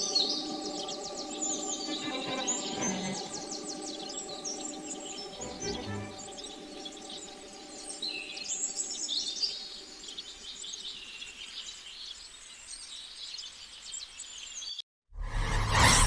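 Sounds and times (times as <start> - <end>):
birds chirping and trilling: 0.0 - 14.8.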